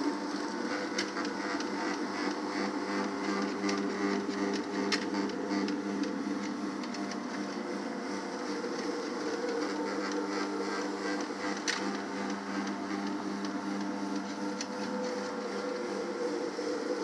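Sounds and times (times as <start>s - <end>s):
floor machine motor hum: 0.0s - 17.0s.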